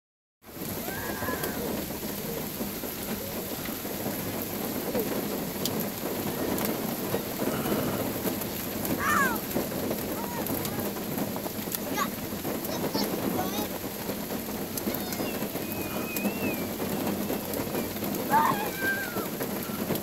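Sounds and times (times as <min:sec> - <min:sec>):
rain falling on a puddle: 0:00.4 - 0:20.0.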